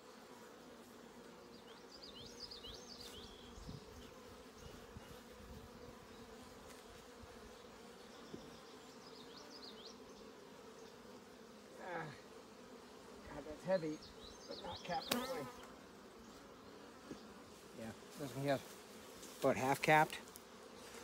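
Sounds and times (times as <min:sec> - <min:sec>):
honey bees humming: 0:00.0 - 0:21.0.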